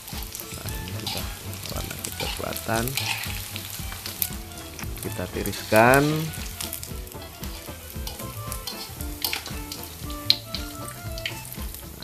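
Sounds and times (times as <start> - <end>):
background music: 0.0 - 12.0
hot oil sizzling in a wok: 0.0 - 12.0.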